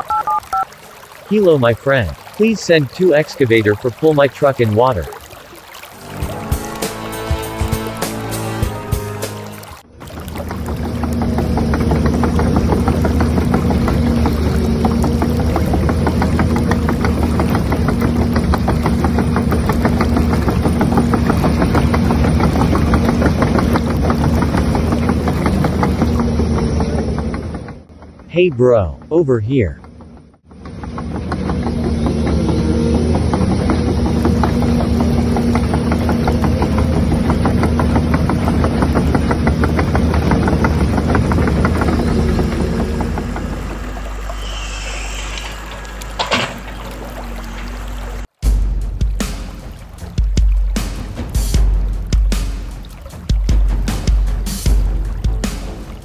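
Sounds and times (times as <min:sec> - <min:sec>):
diesel excavator engine knocking: 0:06.3 - 0:56.0.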